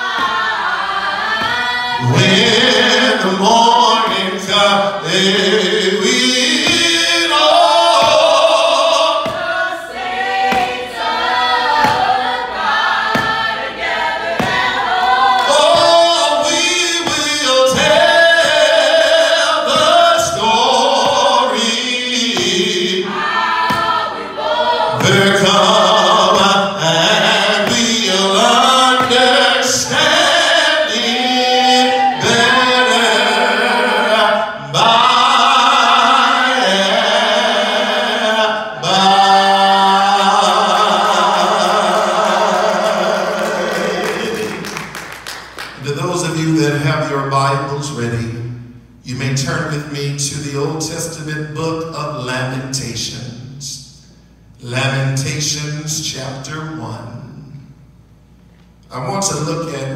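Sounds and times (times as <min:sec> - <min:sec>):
man singing gospel: 0:02.0 - 0:11.1, 0:15.3 - 0:23.2, 0:24.9 - 0:44.9, 0:45.8 - 0:53.9, 0:54.6 - 0:57.7.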